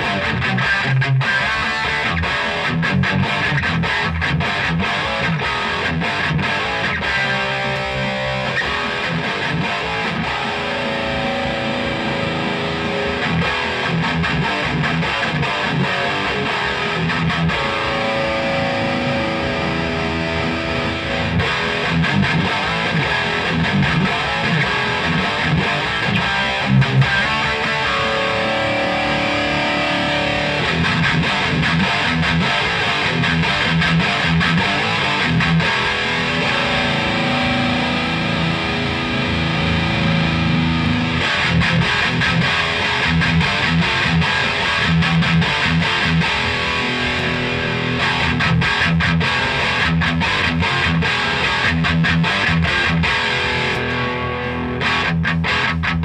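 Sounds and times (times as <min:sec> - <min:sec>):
distorted electric guitar riffs: 0:00.0 - 0:56.0.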